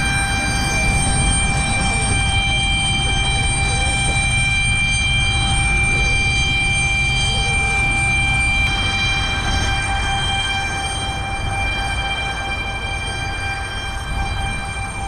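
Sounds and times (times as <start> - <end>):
jet engines whining in cabin: 0.0 - 15.0.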